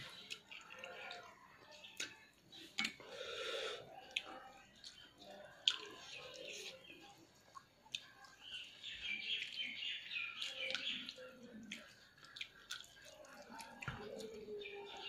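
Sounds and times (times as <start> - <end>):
wet chewing and smacking: 0.0 - 3.1, 3.9 - 15.0.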